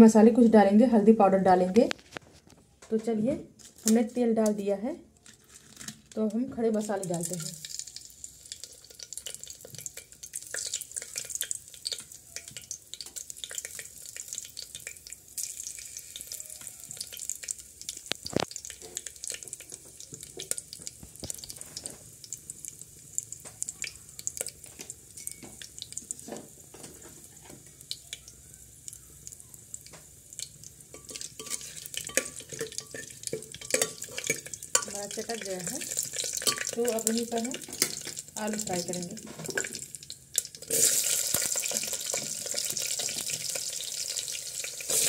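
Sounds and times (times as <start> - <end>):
spices sizzling in hot oil: 3.6 - 45.0.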